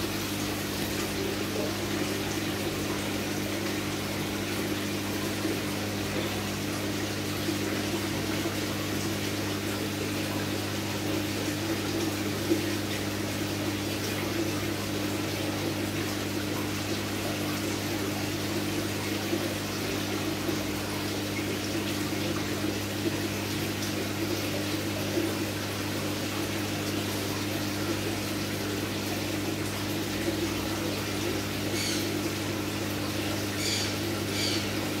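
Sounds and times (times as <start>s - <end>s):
rushing water: 0.0s - 35.0s
water pump humming: 0.0s - 35.0s.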